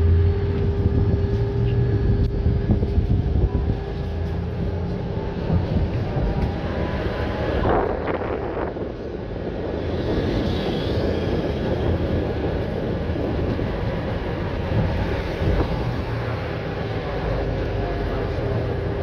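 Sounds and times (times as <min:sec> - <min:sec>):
rush of noise: 0:00.0 - 0:19.0
tram wheels rumbling on rails: 0:00.0 - 0:19.0.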